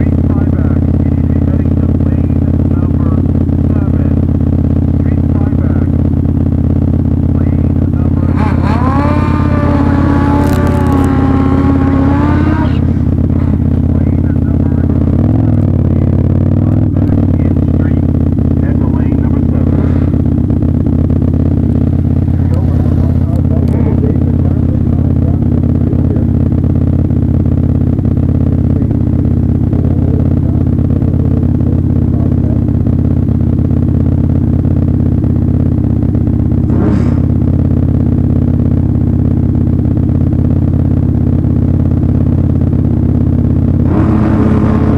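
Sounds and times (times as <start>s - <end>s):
motorcycle engine idling: 0.0s - 44.9s
motorcycle revving high: 0.0s - 44.9s.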